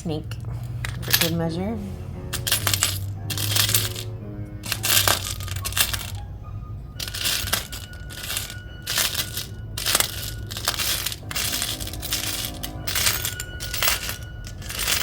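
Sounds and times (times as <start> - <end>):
metal charms clinking: 0.5 - 1.5, 2.3 - 6.3, 7.0 - 15.0.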